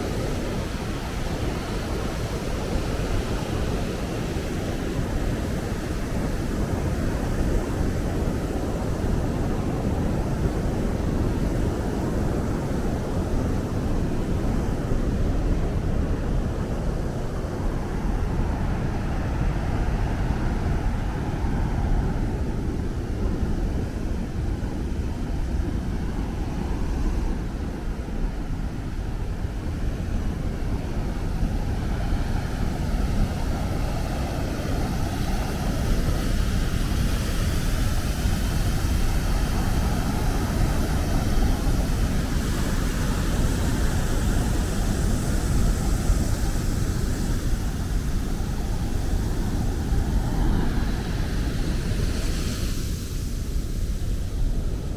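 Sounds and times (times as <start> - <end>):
rushing water roar: 0.0 - 54.9.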